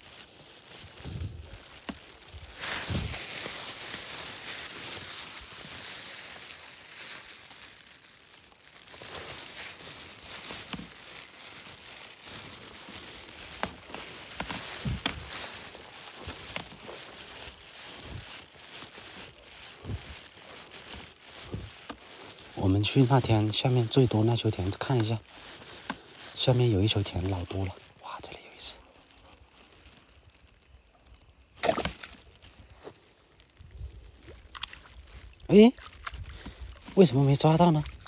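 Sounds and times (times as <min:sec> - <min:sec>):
rustling and crinkling: 0:00.0 - 0:38.0.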